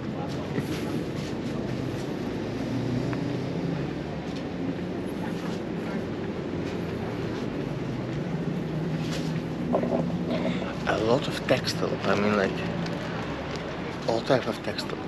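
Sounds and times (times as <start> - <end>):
street market din: 0.0 - 15.0.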